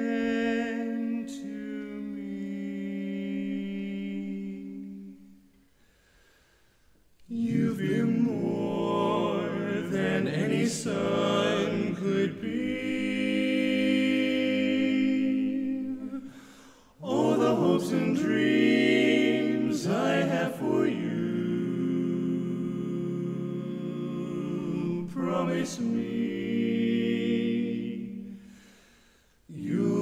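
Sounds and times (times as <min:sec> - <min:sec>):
barbershop quartet singing: 0:00.0 - 0:05.4, 0:07.3 - 0:28.6, 0:29.5 - 0:30.0.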